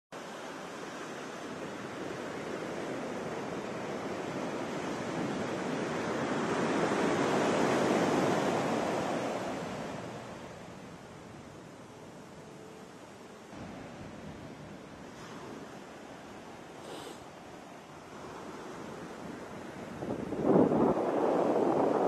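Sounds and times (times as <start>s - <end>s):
ocean surf breaking on beach: 0.2s - 22.0s.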